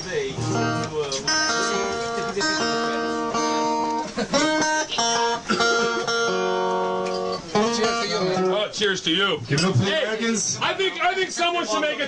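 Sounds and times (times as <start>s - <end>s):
live guitar music: 0.0s - 10.3s.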